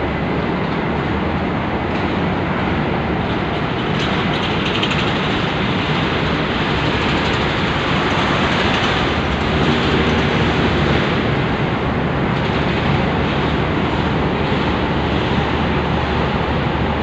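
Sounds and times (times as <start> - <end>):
propeller churning water: 0.0 - 17.0
ship engine rumble: 0.0 - 17.0.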